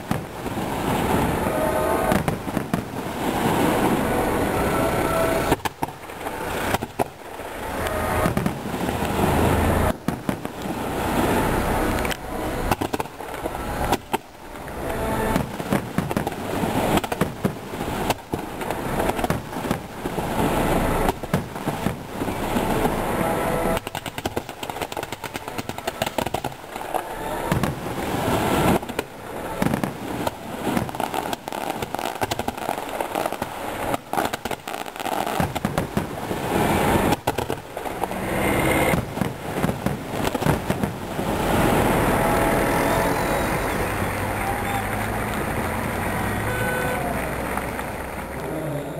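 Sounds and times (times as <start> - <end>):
fireworks bangs and crackle: 0.0 - 48.9.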